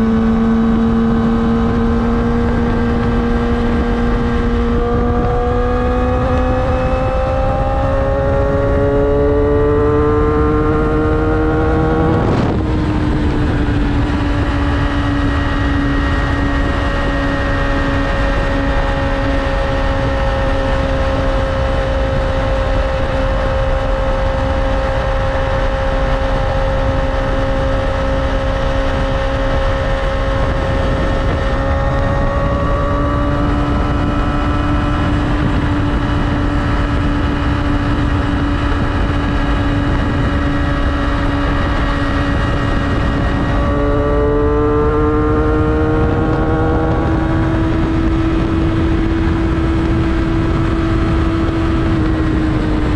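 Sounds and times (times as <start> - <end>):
motorcycle engine revving: 0.0 - 52.9
wind and road rush: 0.0 - 52.9.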